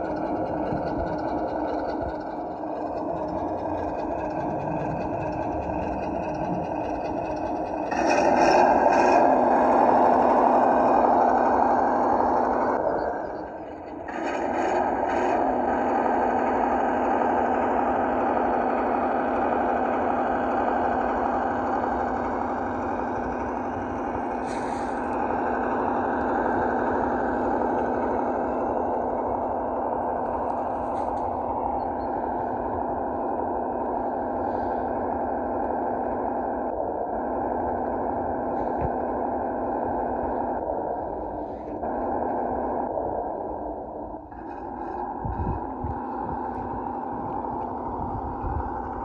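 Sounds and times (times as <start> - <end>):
model truck engine drone: 0.0 - 49.0.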